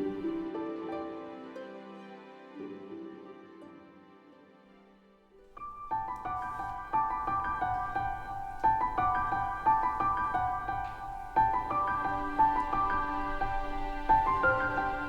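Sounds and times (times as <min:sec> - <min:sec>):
gentle piano-like melody: 0:00.0 - 0:04.7, 0:05.4 - 0:15.0.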